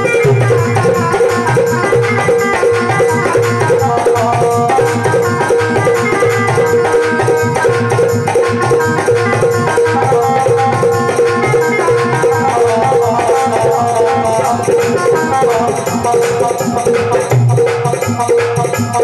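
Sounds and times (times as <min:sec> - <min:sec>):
hand drum beating rhythm: 0:00.0 - 0:19.0
harmonium and keyboard melody: 0:00.0 - 0:19.0.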